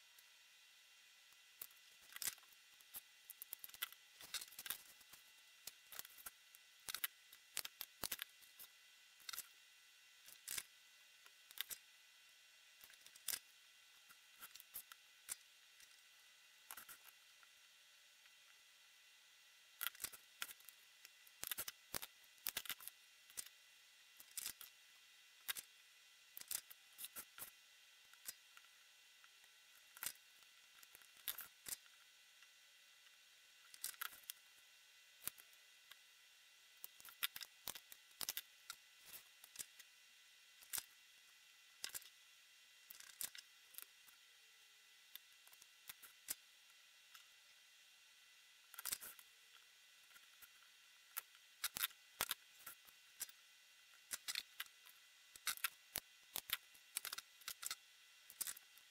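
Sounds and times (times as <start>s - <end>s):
faint steady hiss: 0.0s - 58.9s.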